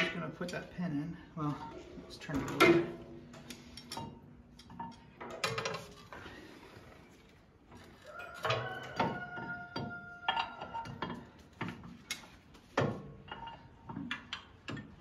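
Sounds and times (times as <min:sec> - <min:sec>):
steel parts clinking and clanking: 0:00.0 - 0:06.4, 0:07.7 - 0:15.0.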